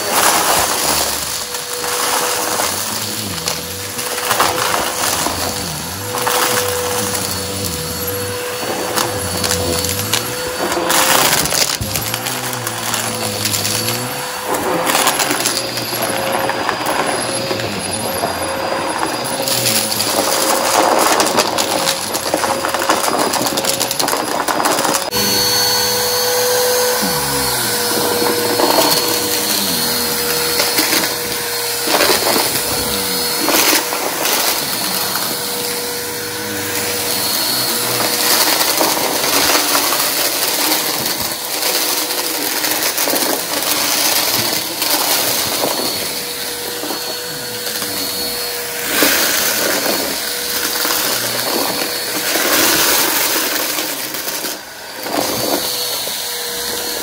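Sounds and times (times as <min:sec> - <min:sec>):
debris clicks and rattles: 0:00.0 - 0:57.0
vacuum cleaner running: 0:00.0 - 0:57.0.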